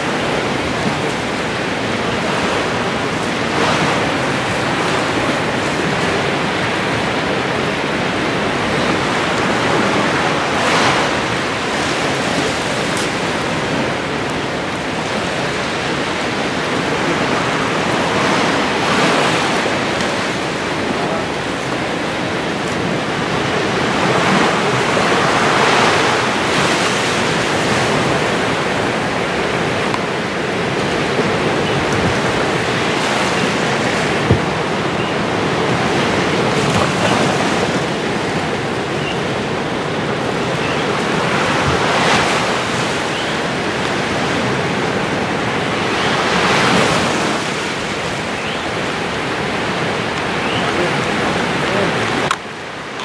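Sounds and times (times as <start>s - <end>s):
rushing water underwater: 0.0s - 53.0s.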